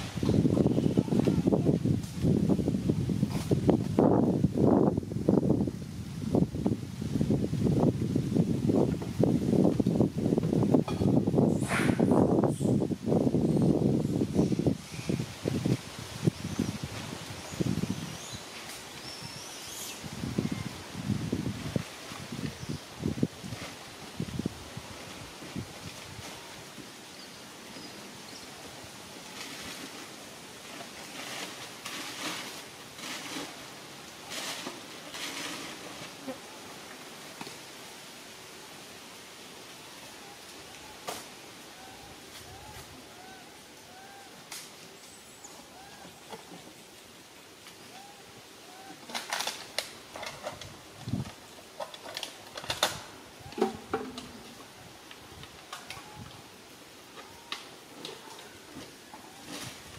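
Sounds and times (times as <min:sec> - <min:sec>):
outdoor hiss: 0:00.0 - 0:59.9.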